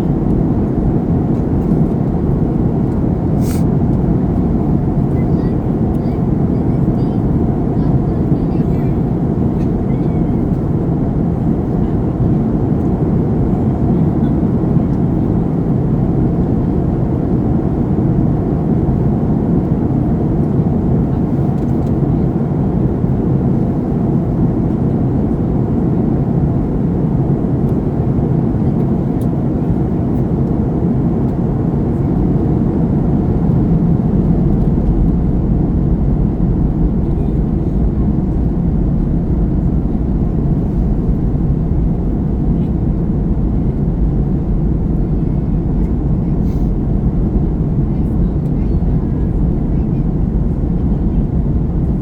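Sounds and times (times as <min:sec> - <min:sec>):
jet engine rumble in cabin: 0:00.0 - 0:52.0.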